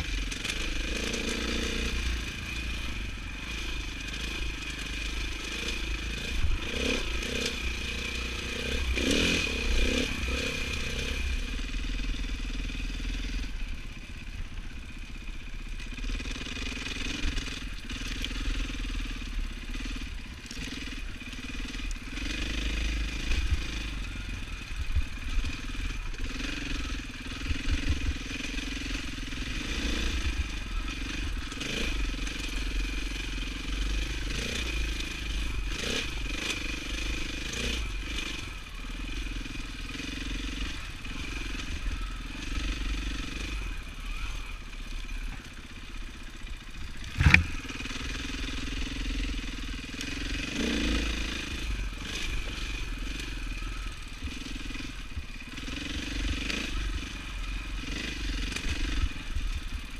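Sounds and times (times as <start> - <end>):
dirt bike engine revving: 0.0 - 13.7, 15.9 - 59.9.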